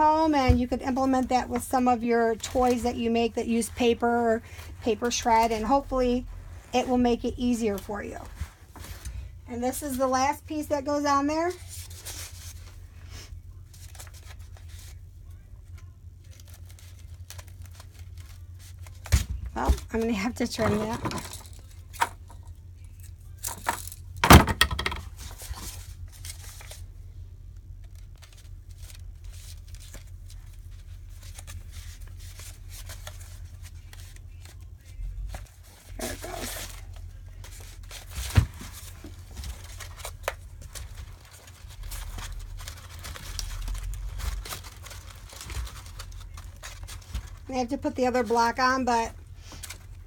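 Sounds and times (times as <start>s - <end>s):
cardboard rustling and crinkling: 0.0s - 24.2s, 24.8s - 50.0s.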